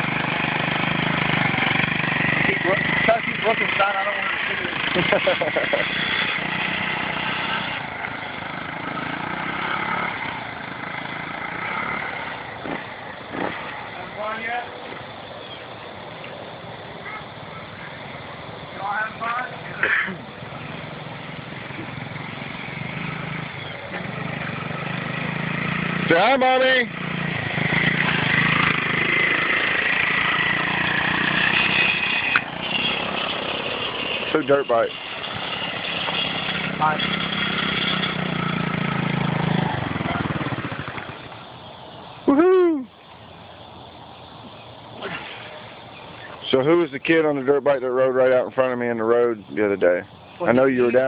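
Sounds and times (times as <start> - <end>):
dirt bike engine running: 0.0 - 15.1, 17.0 - 43.5.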